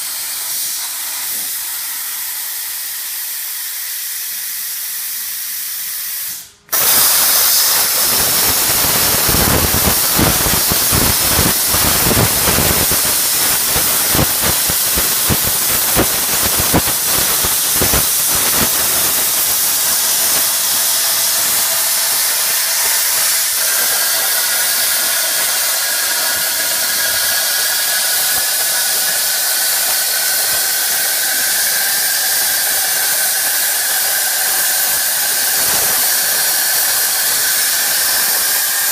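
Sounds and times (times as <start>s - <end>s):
plasma cutter air hiss: 0.0s - 38.9s
plasma arc crackling: 6.7s - 38.9s.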